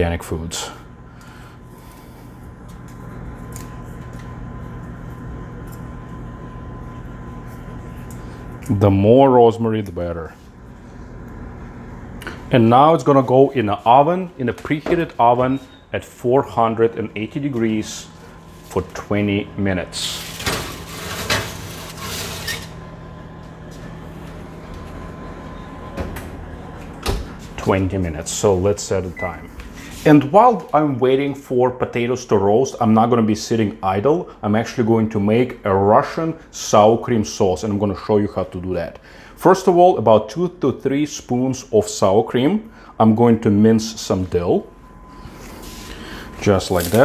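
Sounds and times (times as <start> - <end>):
fan humming: 0.0 - 47.0.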